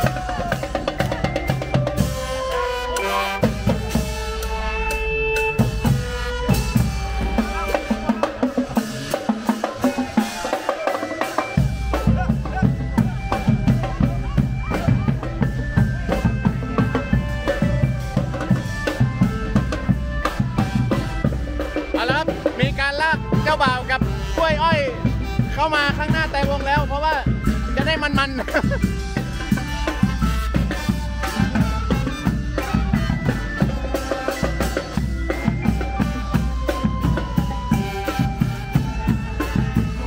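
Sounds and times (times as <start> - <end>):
bass drum beat: 0.0 - 40.0
brass band playing: 0.0 - 40.0
snare drums: 0.0 - 40.0.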